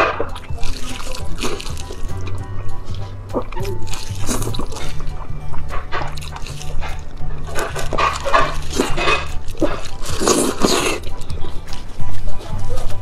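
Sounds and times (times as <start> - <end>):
background music with bass line: 0.0 - 13.0
wet chewing and slurping: 0.0 - 13.0.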